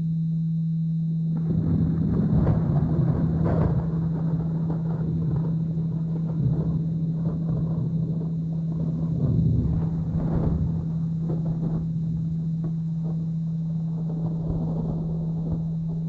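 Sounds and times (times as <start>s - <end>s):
steady low hum: 0.0s - 16.0s
rolling thunder rumble: 1.3s - 16.0s.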